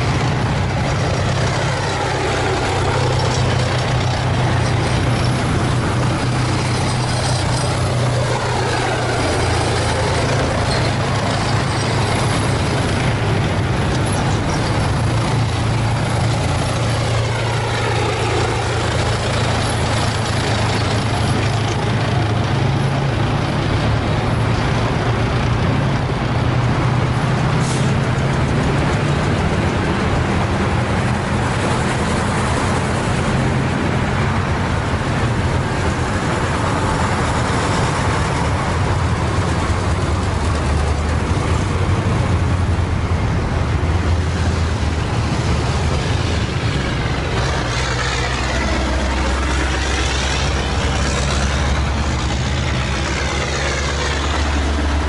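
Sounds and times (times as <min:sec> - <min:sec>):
low engine drone: 0:00.0 - 0:55.0
vehicle whine passing: 0:00.0 - 0:55.0.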